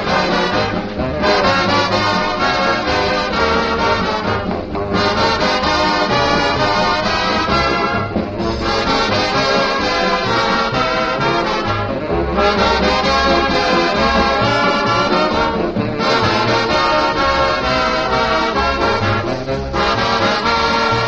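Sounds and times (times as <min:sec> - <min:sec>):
swing band music with brass: 0:00.0 - 0:21.0.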